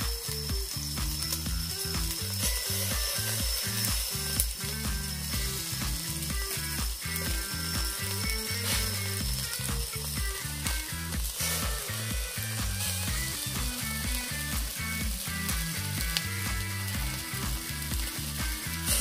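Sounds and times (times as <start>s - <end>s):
meat sizzling on a grill: 0.0s - 19.0s
music with choppy low beat: 0.0s - 19.0s.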